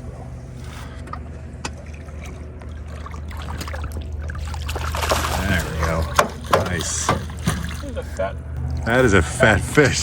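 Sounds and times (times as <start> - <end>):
steady low hum: 0.0 - 10.0
light water sounds: 0.1 - 9.8.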